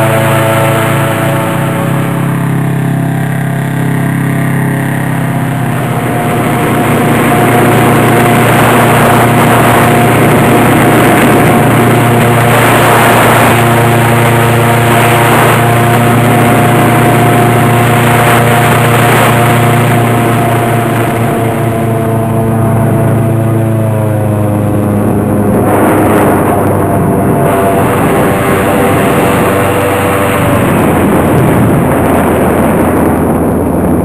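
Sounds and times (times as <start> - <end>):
airboat engine and propeller: 0.0 - 34.0.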